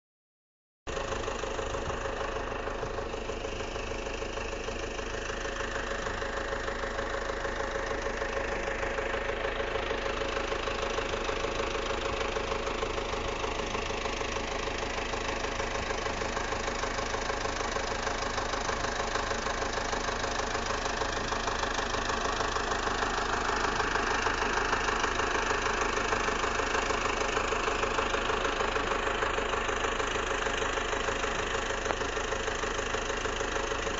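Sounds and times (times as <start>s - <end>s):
engine running: 0.9s - 33.9s.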